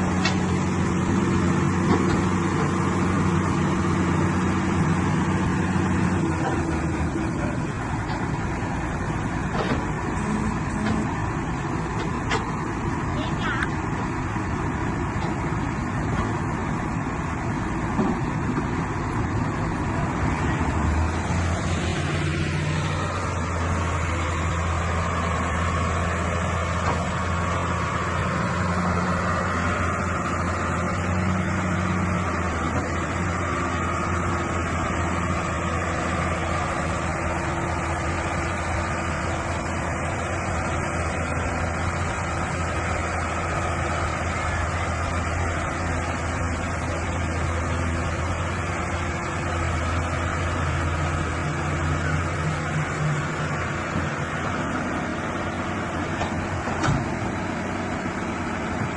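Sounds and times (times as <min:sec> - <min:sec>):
deep engine hum: 0:00.0 - 0:58.9
diesel engines running: 0:00.0 - 0:58.9.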